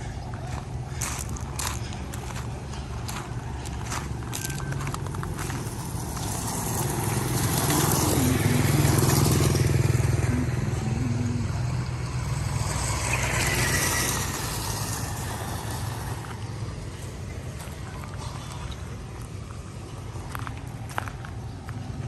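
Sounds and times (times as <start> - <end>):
vehicle motor humming: 0.0 - 22.0.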